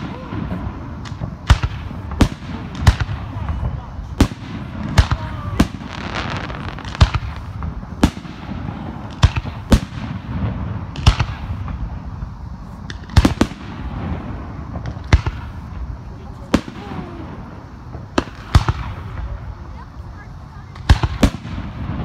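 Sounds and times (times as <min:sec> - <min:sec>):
firework shells bursting: 0:00.0 - 0:19.6.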